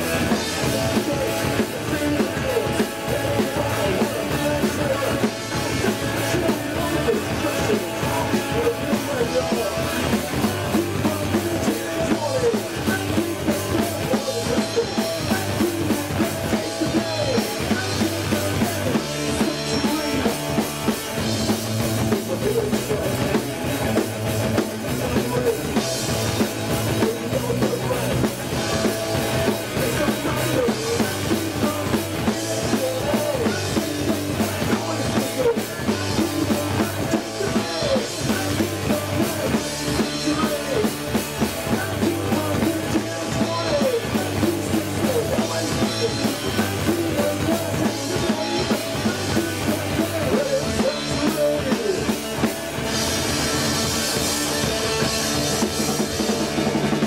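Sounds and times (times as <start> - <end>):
drum kit beat: 0.0 - 57.0
live rock band: 0.0 - 57.0.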